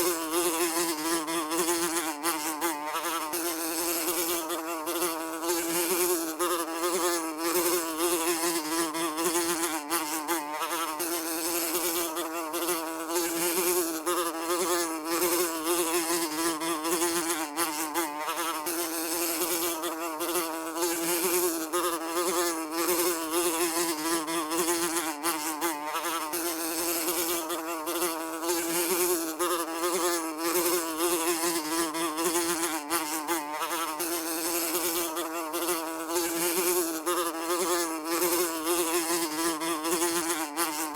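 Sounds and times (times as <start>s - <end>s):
housefly buzzing: 0.0s - 40.9s.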